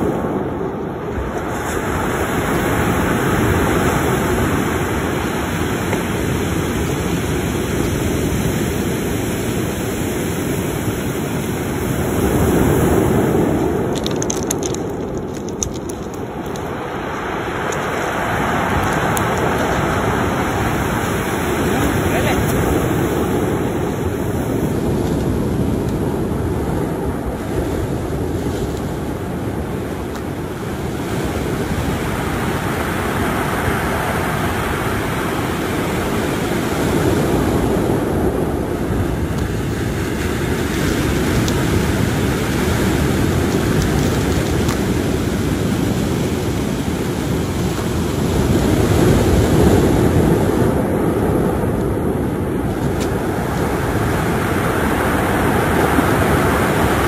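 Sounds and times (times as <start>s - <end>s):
surf breaking on stony beach: 0.0s - 57.0s.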